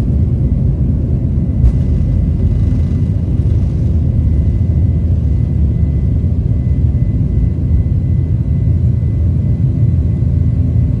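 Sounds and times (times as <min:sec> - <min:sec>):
faint steady engine whine: 0:00.0 - 0:11.0
jet engine rumble in cabin: 0:00.0 - 0:11.0.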